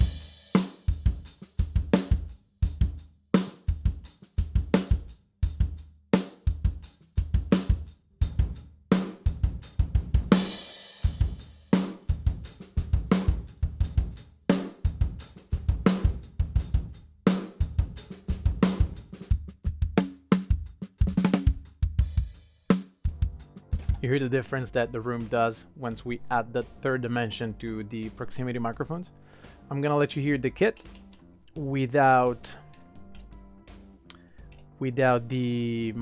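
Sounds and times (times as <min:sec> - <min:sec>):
drum kit playing a groove: 0:00.0 - 0:36.0.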